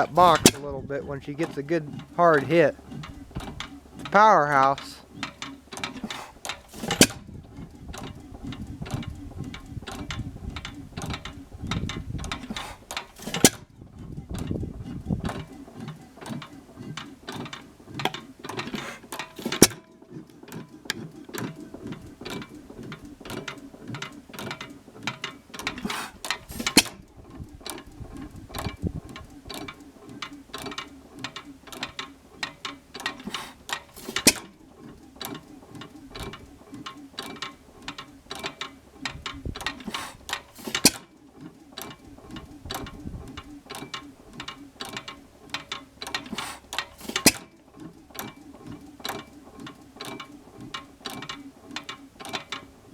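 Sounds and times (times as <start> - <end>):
valve gear clicking: 0.0 - 52.9.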